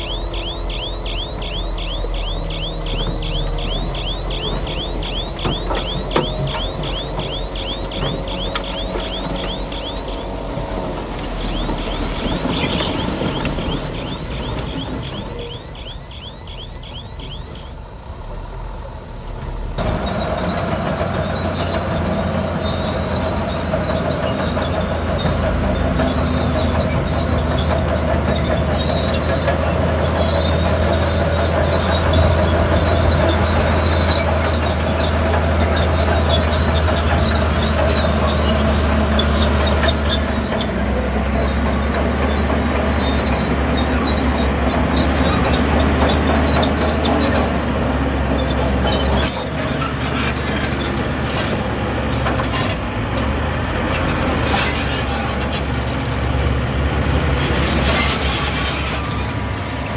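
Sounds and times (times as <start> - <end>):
high metallic squeaks: 0.0 - 17.8, 20.0 - 52.8, 53.9 - 56.3
bulldozer diesel engine: 0.0 - 59.9.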